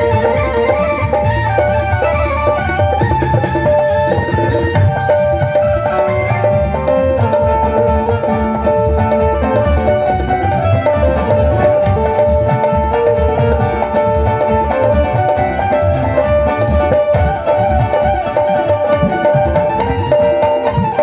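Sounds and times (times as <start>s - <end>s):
loud song with drum beat: 0.0s - 21.0s.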